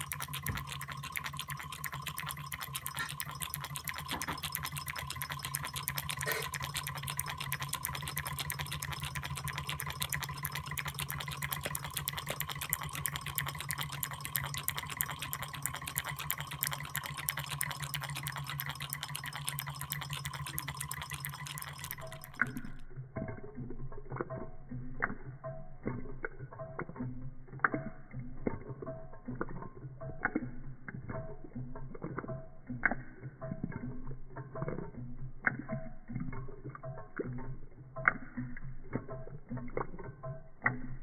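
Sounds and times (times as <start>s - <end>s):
irregular clicks and creaks: 0.0s - 41.0s.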